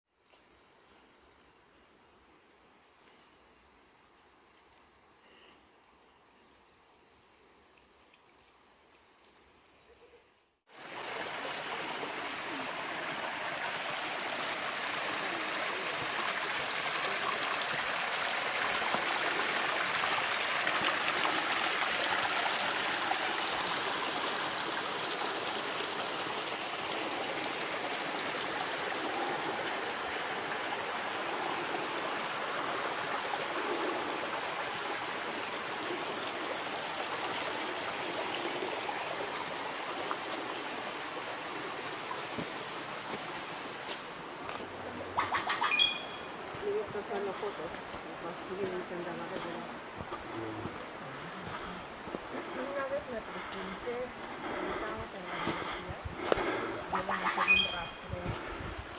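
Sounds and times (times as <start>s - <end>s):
forest stream rushing: 10.7s - 58.9s.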